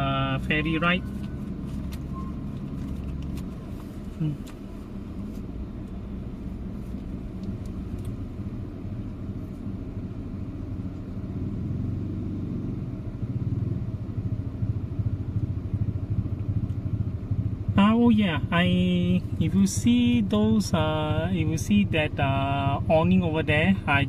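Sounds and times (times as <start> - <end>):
ferry engine rumble: 0.0 - 24.0.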